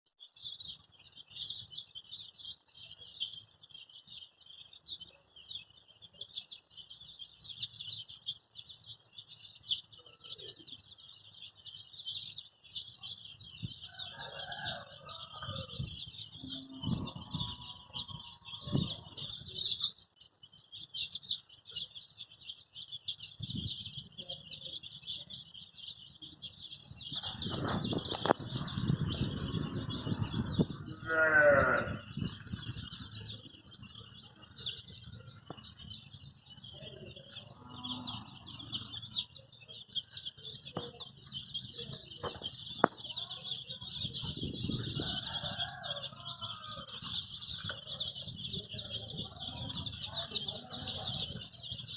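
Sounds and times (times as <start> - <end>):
baby chicks peeping: 0.1 - 51.9.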